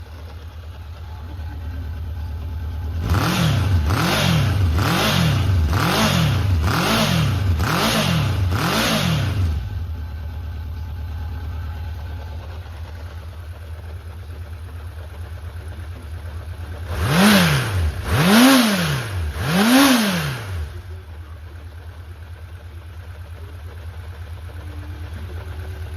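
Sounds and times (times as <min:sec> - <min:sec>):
motorcycle engine revving and idling: 0:00.0 - 0:25.9.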